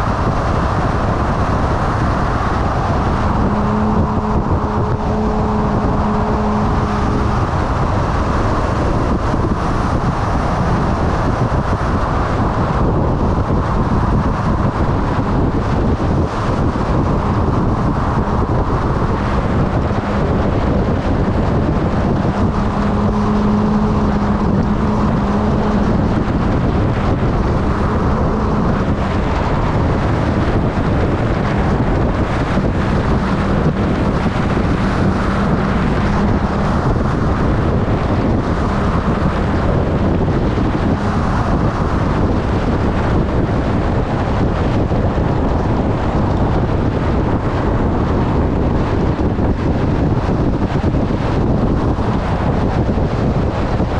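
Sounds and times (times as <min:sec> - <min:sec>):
motorcycle engine hum: 0:00.0 - 0:53.9
wind rushing over microphone: 0:00.0 - 0:53.9.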